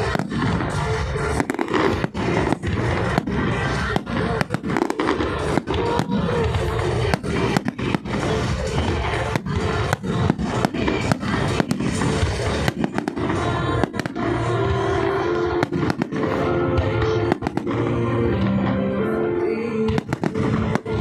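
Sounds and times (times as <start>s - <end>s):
fireworks bangs and crackles: 0.0s - 19.0s, 19.8s - 21.0s
music with held notes: 0.0s - 21.0s.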